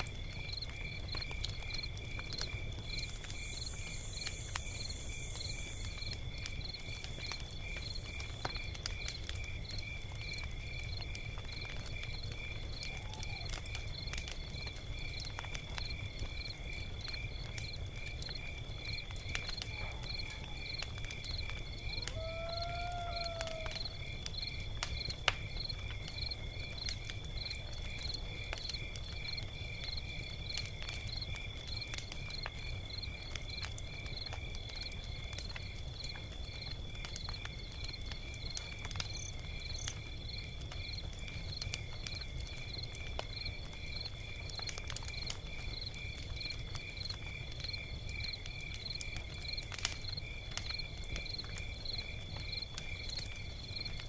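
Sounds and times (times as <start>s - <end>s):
log fire crackling: 0.0s - 54.0s
crickets chirping: 0.1s - 54.0s.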